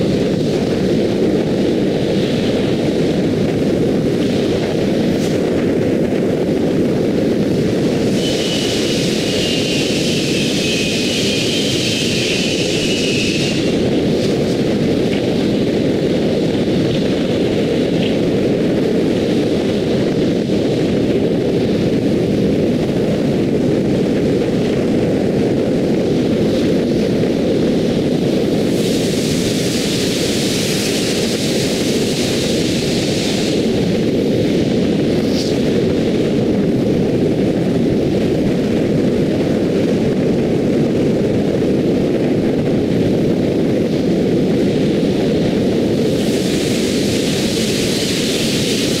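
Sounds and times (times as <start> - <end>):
wind and tyre road noise: 0.0 - 49.0.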